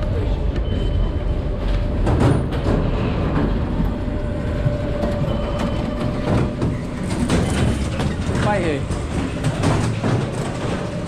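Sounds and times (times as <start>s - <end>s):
rail traffic rumble: 0.0s - 11.0s.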